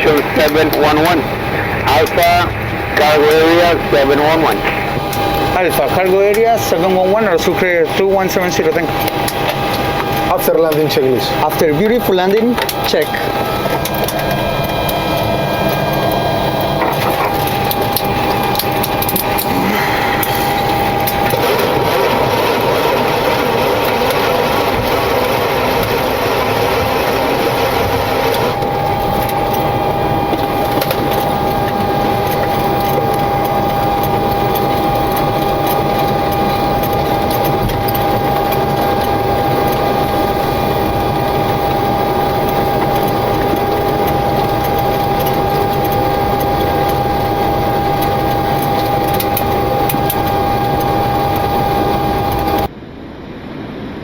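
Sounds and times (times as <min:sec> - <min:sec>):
idling jet engines rushing: 0:00.0 - 0:54.0
steady high whine: 0:00.0 - 0:54.0.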